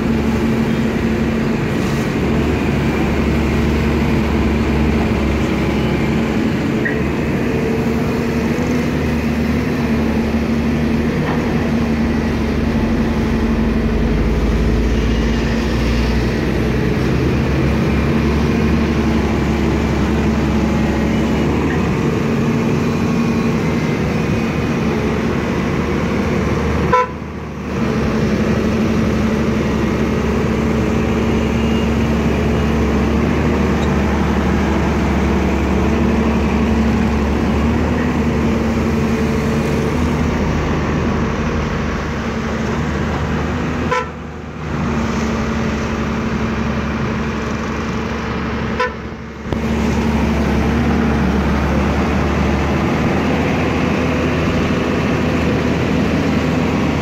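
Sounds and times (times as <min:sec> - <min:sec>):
excavator engine and hydraulics droning: 0:00.0 - 0:57.0.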